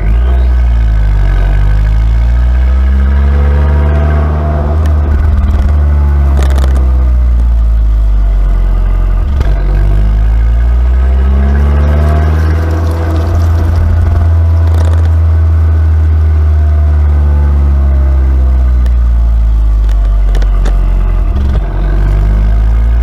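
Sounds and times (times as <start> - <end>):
car engine revving: 0.0 - 23.0
exhaust crack: 0.0 - 23.0.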